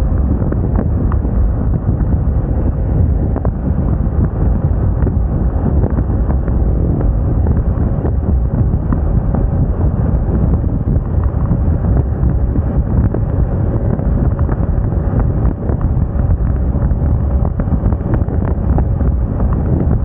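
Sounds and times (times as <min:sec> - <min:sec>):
road noise: 0:00.0 - 0:20.0
wind rushing over microphone: 0:00.0 - 0:20.0.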